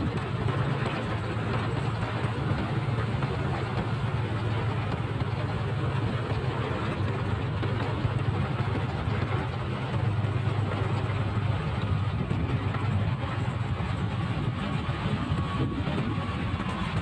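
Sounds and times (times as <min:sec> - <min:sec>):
motorcycle engine running: 0:00.0 - 0:17.0
road and air noise: 0:00.0 - 0:17.0.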